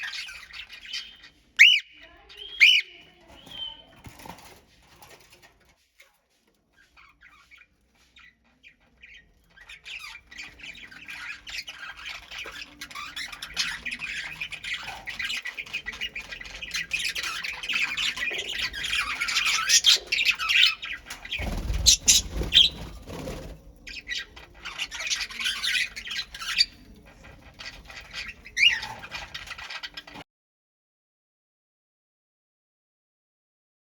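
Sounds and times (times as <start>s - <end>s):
pet birds squawking and chattering: 0.0s - 30.2s.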